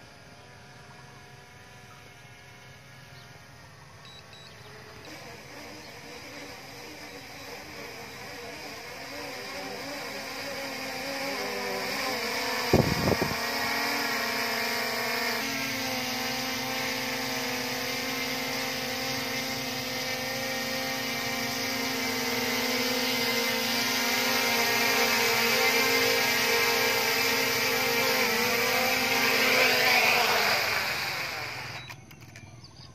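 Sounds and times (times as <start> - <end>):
drone propellers buzzing: 0.0 - 32.6.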